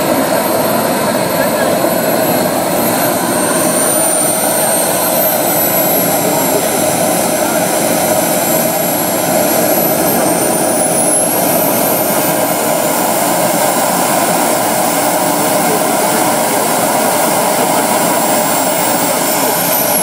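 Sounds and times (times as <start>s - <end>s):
model jet engine whine: 0.0s - 20.0s.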